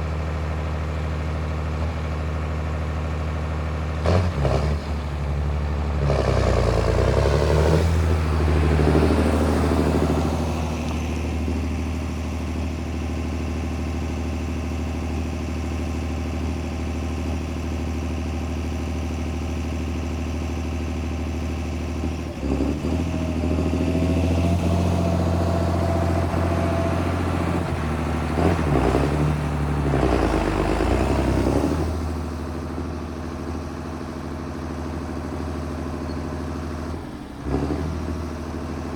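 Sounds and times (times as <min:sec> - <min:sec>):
tractor diesel engine revving: 0:00.0 - 0:38.9.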